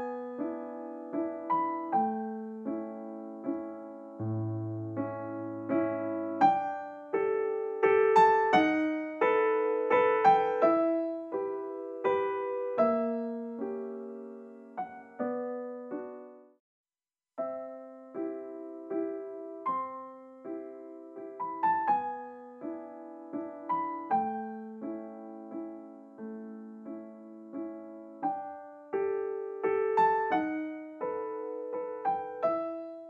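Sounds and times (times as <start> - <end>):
solo piano music: 0.0 - 16.6, 17.4 - 33.0.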